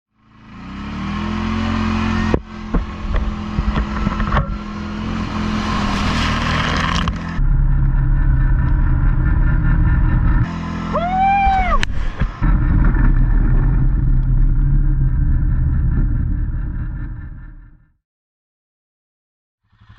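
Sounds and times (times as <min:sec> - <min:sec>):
atv engine running: 0:00.2 - 0:17.9, 0:19.6 - 0:19.9.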